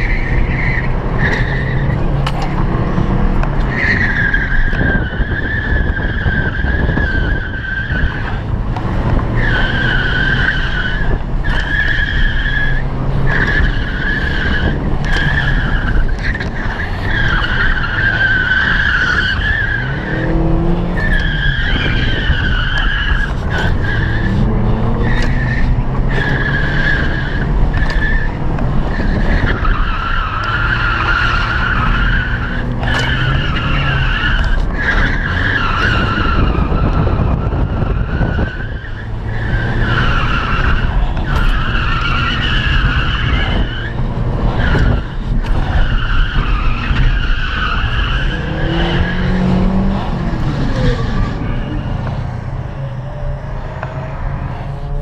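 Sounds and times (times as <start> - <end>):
car engine revving: 0.0 - 55.0
tyres squealing: 9.3 - 54.5.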